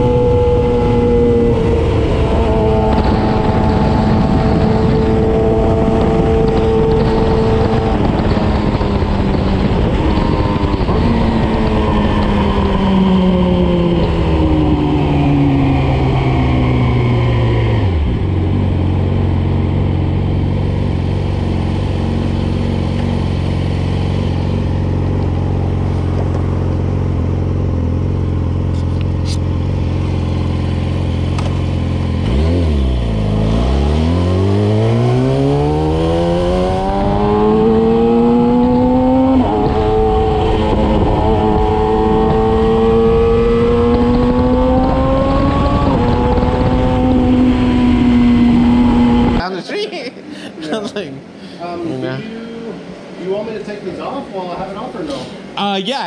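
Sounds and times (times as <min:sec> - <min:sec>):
motorcycle engine: 0:00.0 - 0:49.4.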